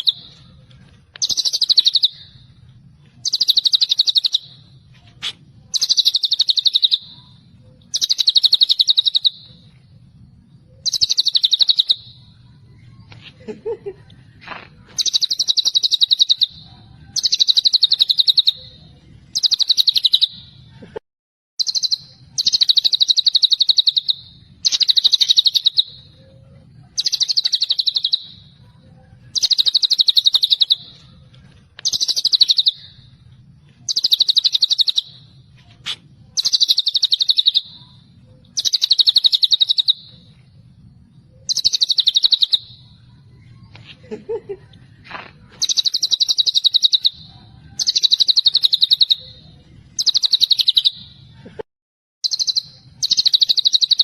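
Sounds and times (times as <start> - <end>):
bird singing trilled phrases: 0.0 - 0.6, 1.2 - 2.5, 3.2 - 9.8, 10.7 - 13.0, 15.0 - 20.5, 21.6 - 31.1, 31.8 - 33.2, 33.9 - 40.4, 41.3 - 43.7, 45.6 - 51.2, 52.2 - 54.0.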